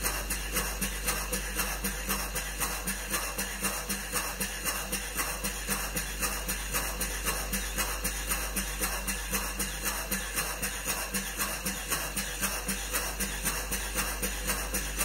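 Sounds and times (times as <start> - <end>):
steam engine exhaust chuffing: 0.0 - 15.0.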